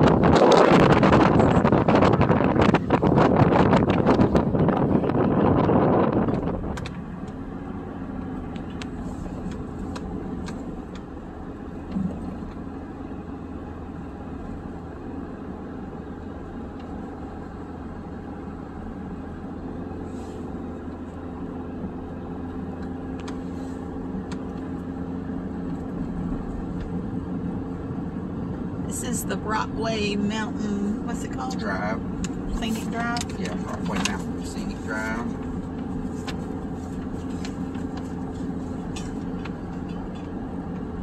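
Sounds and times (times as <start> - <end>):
vehicle engine and road noise: 0.0 - 41.0.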